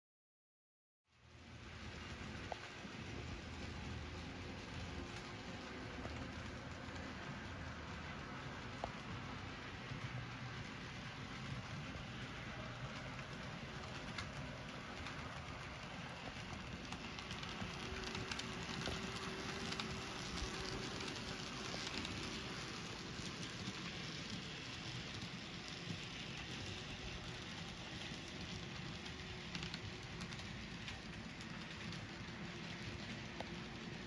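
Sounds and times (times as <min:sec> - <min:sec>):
model train wheels clicking: 0:01.5 - 0:34.0.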